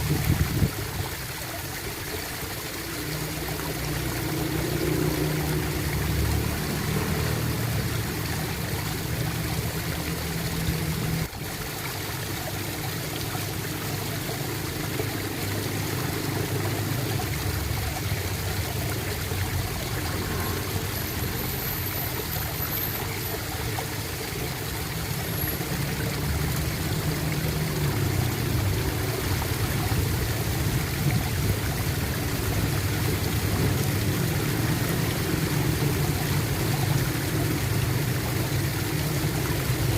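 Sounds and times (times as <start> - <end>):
water flowing and gurgling: 0.0 - 39.9.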